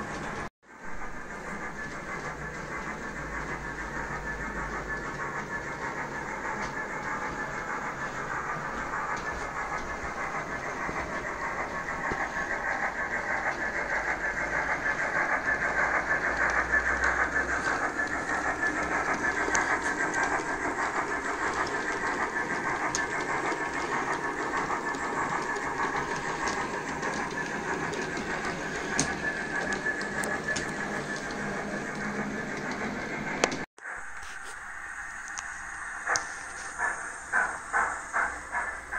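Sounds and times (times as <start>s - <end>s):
model train motors whirring: 1.1s - 38.9s.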